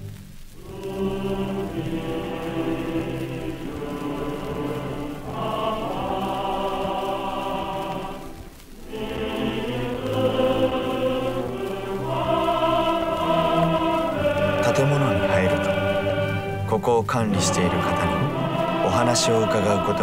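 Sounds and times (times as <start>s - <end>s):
choir singing slow song: 0.0s - 20.0s.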